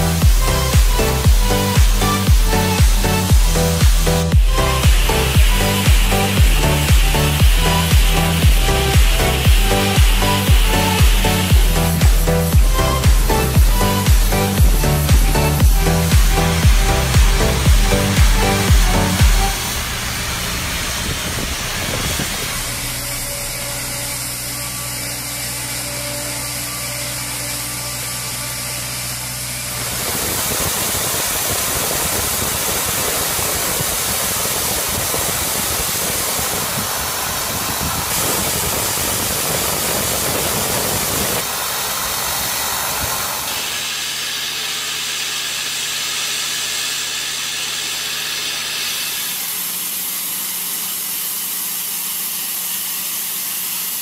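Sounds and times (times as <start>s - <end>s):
engine hum: 0.0s - 49.7s
high-pressure water jet hiss: 0.0s - 54.0s.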